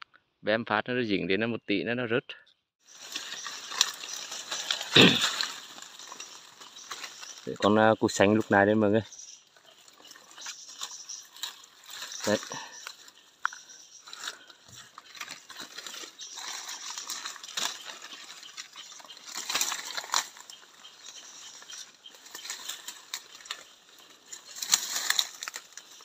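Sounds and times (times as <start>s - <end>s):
leaves and brush crackling: 2.8s - 26.0s.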